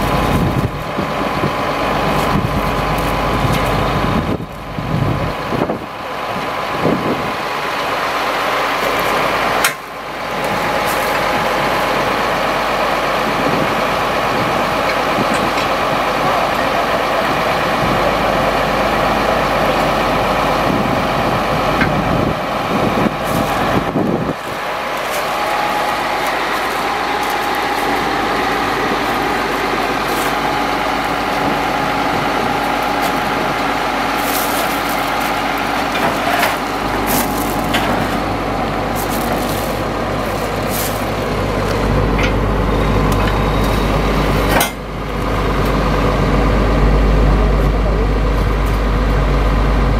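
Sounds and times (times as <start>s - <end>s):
truck engine running: 0.0s - 49.9s.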